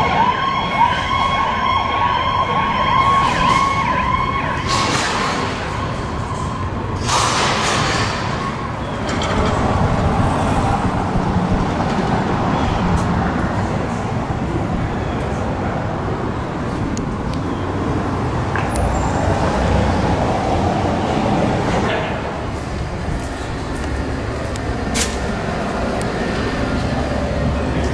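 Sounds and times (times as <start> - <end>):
road traffic noise: 0.0 - 27.9
motor vehicle running: 4.6 - 27.9.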